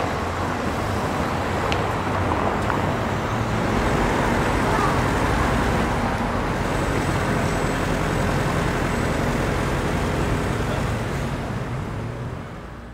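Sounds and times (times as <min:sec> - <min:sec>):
cars driving past: 0:00.0 - 0:12.9.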